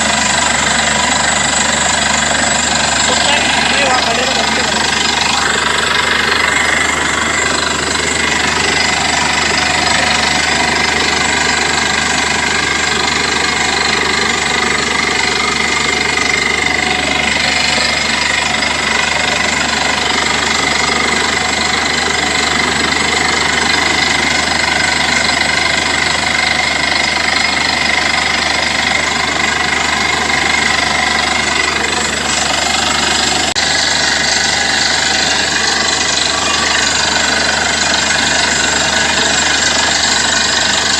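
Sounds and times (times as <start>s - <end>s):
drilling rig engine running: 0.0s - 40.9s.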